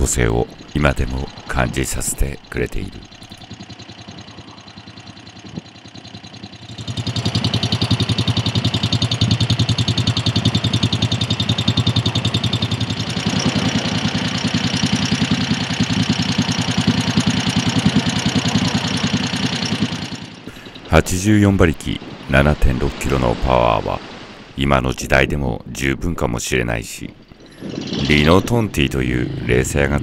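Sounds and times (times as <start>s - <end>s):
motorcycle engine idling: 0.0s - 22.3s, 27.1s - 30.0s.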